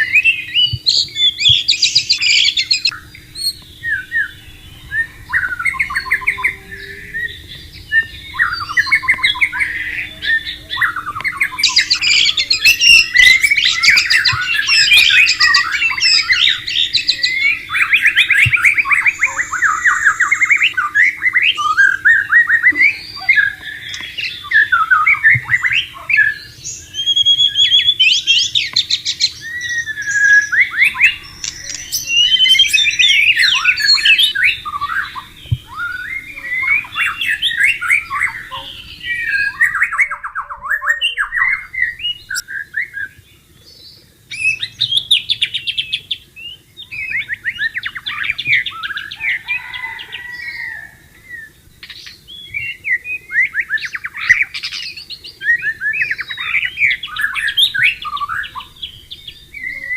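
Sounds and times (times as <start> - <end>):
songbird singing whistles and trills: 0.0 - 59.9.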